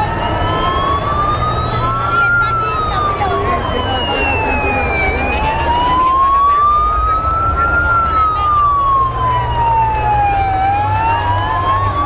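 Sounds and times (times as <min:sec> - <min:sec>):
dense crowd noise: 0:00.0 - 0:12.0
emergency siren wailing: 0:00.0 - 0:12.0.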